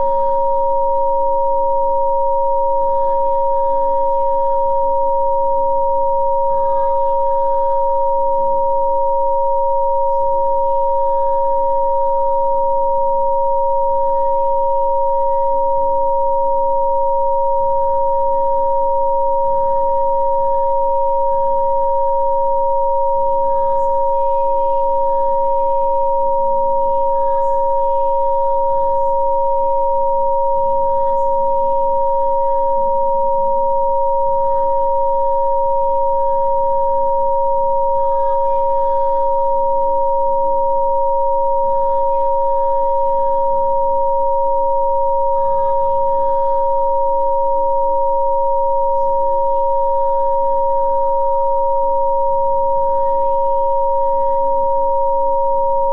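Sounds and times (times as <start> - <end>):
steady sine tones: 0.0 - 55.9.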